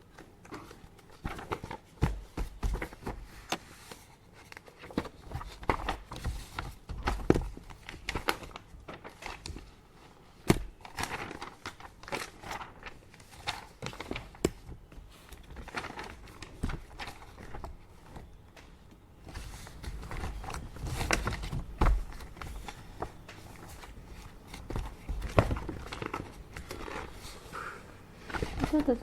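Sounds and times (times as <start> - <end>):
paper rustling: 0.1 - 29.0.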